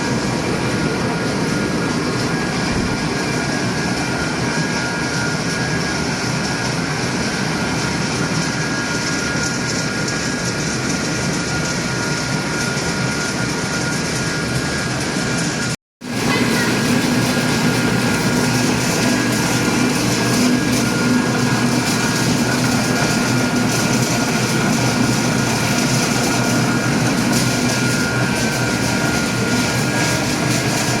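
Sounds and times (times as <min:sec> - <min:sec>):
machinery running steadily: 0:00.0 - 0:31.0.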